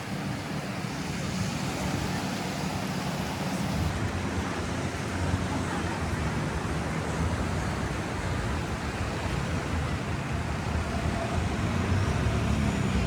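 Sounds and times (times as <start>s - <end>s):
continuous rushing noise: 0.0s - 13.0s.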